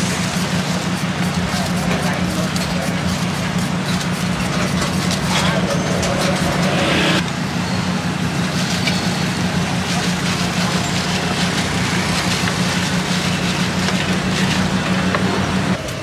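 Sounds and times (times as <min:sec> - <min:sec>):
low mechanical hum: 0:00.0 - 0:16.0
street noise: 0:00.0 - 0:16.0.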